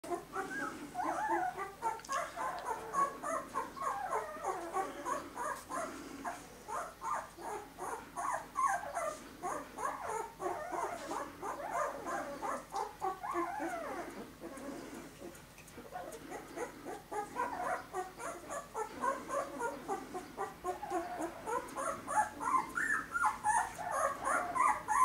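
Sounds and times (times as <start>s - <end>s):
puppy whimpering and squeaking: 0.1s - 5.9s, 6.7s - 14.7s, 15.8s - 25.0s.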